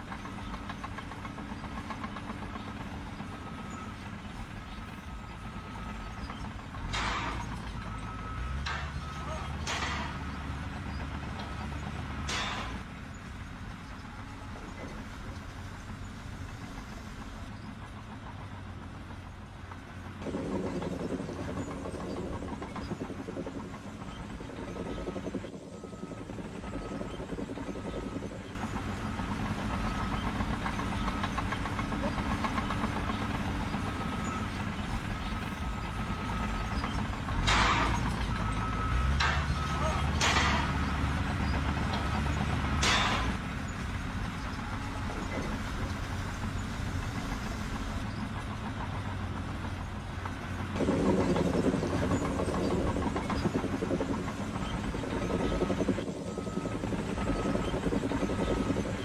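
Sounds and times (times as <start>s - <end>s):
heavy machinery engines running: 0.0s - 59.0s.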